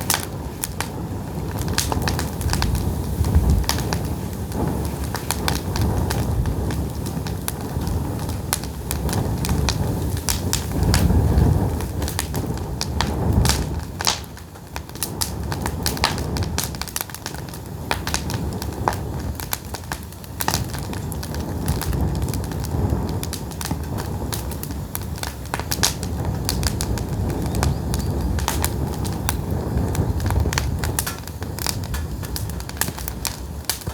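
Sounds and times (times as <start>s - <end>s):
fire low rumble: 0.0s - 33.9s
firewood popping and crackling: 0.0s - 33.9s.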